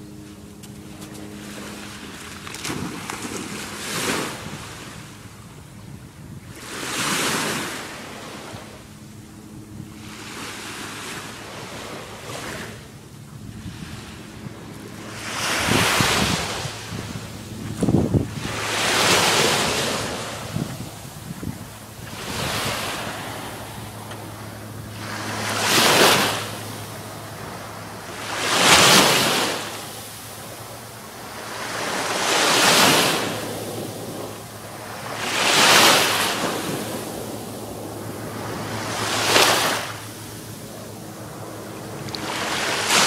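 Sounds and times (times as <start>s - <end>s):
wind on microphone: 0.0s - 10.4s, 11.4s - 43.0s.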